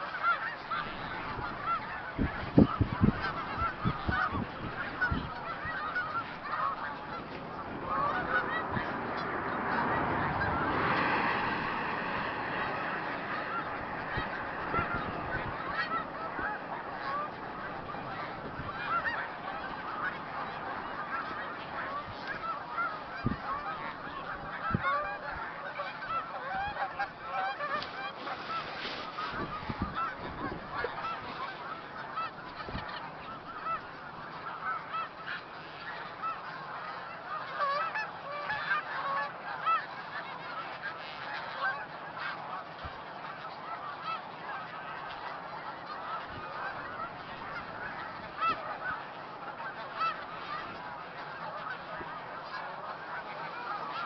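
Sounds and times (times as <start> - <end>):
flock of geese calling: 0.0 - 54.0.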